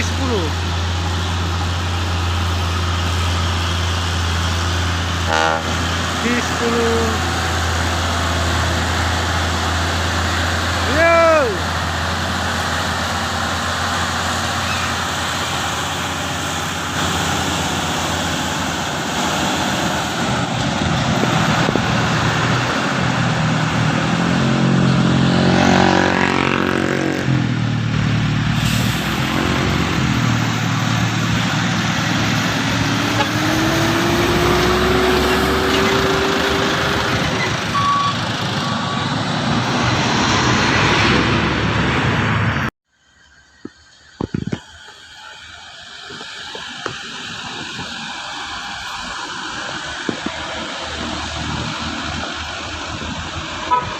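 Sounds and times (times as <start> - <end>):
diesel trucks labouring uphill: 0.0 - 42.7, 43.6 - 53.9
truck engine passing: 0.0 - 42.7, 44.8 - 53.9.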